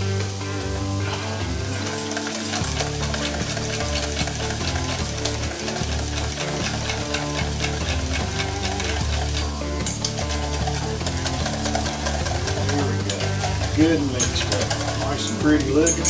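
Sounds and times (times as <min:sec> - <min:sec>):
vegetables sizzling in a frying pan: 0:00.0 - 0:16.0
whisk scraping metal bowl: 0:01.0 - 0:16.0.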